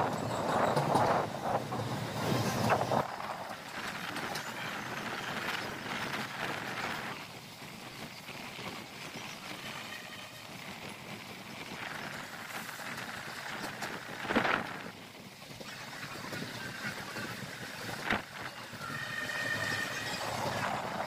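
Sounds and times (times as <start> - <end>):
train clatters: 0.0 - 21.0
train wheels rumbling on rail: 0.0 - 21.0.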